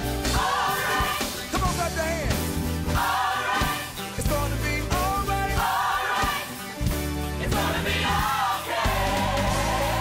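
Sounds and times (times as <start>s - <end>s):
gospel choir singing: 0.0s - 1.8s, 2.6s - 10.0s
bass and drums: 0.0s - 10.0s.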